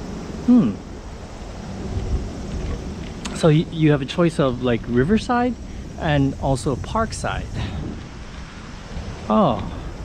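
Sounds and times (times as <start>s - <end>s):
faint hiss: 0.0s - 10.0s
low outdoor rumble: 0.0s - 10.0s.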